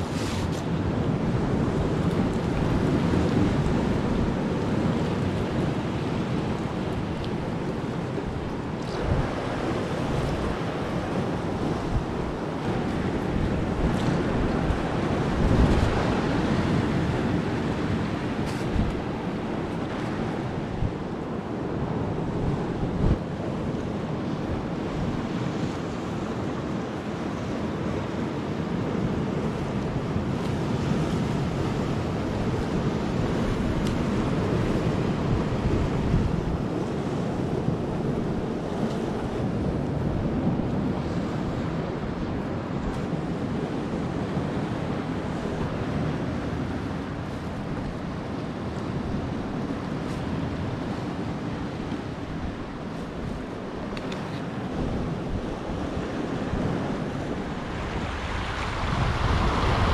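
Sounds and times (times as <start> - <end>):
waves washing against rocks: 0.0 - 59.9
wind buffeting microphone: 0.0 - 59.9.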